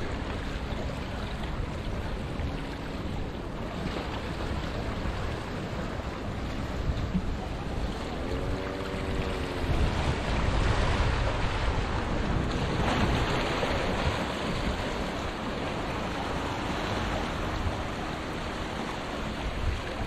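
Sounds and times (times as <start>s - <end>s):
waves washing against rocks: 0.0s - 20.0s
wind rumbling on microphone: 0.0s - 20.0s.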